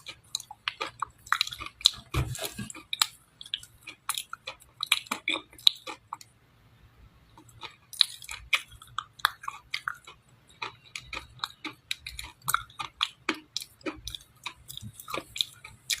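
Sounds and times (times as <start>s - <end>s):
person chewing dry clay: 0.0s - 6.4s, 7.3s - 16.0s.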